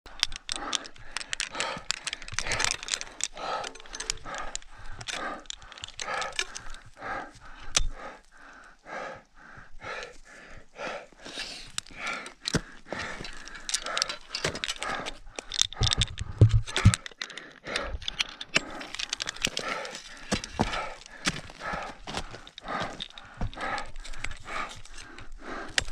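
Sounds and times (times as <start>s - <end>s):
climbing gear clicks and knocks: 0.0s - 25.9s
person panting hard: 0.1s - 25.9s.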